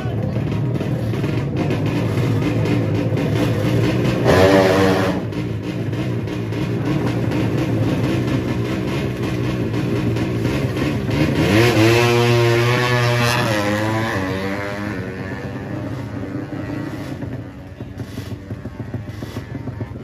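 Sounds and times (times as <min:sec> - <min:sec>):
motorcycle engine revving hard: 0:00.0 - 0:20.0.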